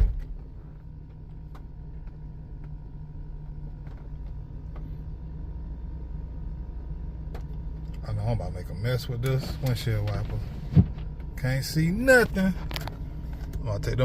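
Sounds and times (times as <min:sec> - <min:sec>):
engine idling low rumble: 0:00.0 - 0:14.0.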